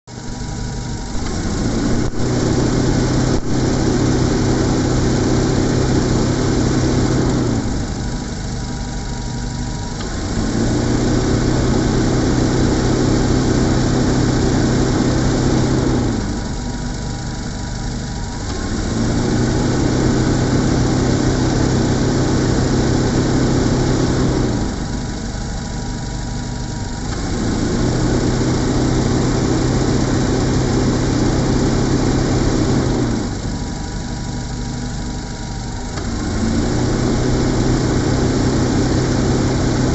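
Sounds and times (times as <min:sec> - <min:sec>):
motor-driven machine humming: 0:00.1 - 0:39.9.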